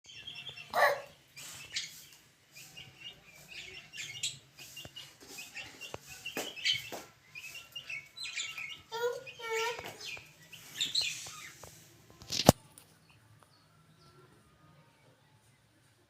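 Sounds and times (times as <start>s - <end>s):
birds chirping: 0.0s - 15.8s.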